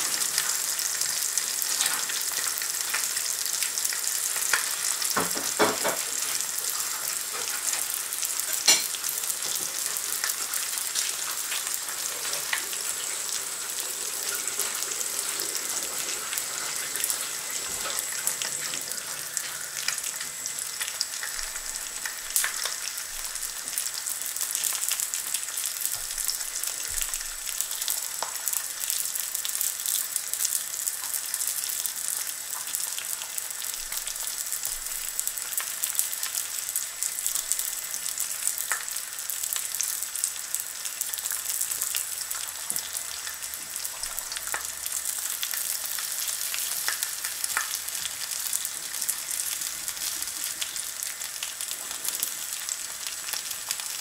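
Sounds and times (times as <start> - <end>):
fat hissing and crackling in a pan: 0.0 - 54.0.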